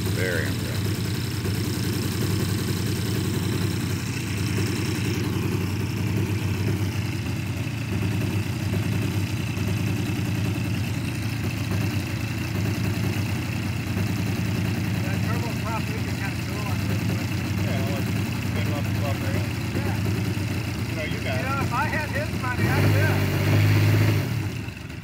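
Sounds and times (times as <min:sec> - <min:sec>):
model aircraft engine idling: 0:00.0 - 0:23.3, 0:24.3 - 0:25.0.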